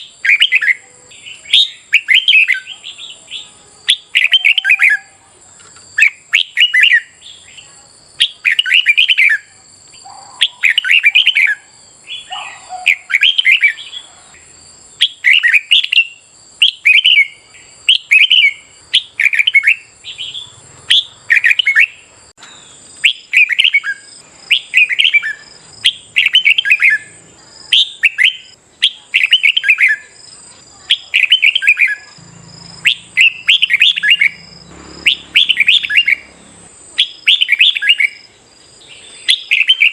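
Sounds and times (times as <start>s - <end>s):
bulbul warbling song: 0.0s - 5.2s, 6.0s - 7.6s, 8.2s - 14.1s, 15.0s - 30.2s, 30.9s - 39.9s.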